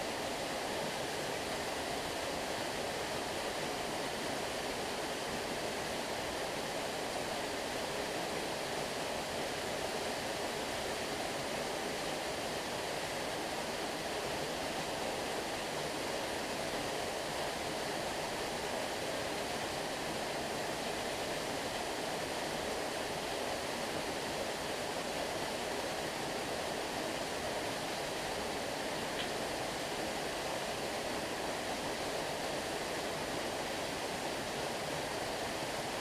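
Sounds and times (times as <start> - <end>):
stream water running: 0.0 - 36.0.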